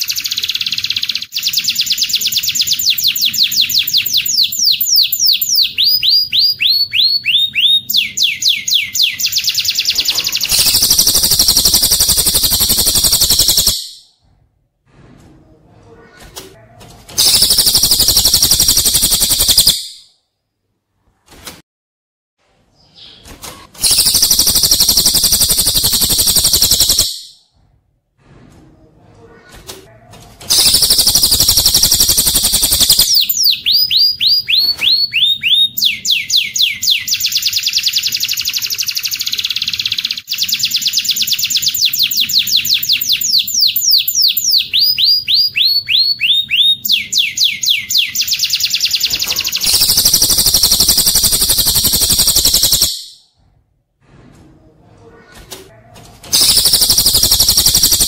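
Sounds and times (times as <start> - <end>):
canary song: 0.0 - 14.2, 17.2 - 20.2, 22.8 - 27.5, 30.5 - 53.4, 56.3 - 58.0.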